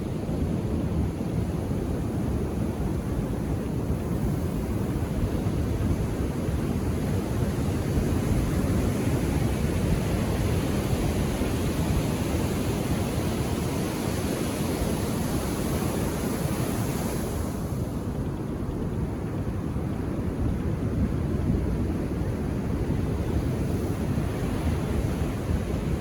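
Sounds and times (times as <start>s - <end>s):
ocean surf washing on shore: 0.0s - 26.0s.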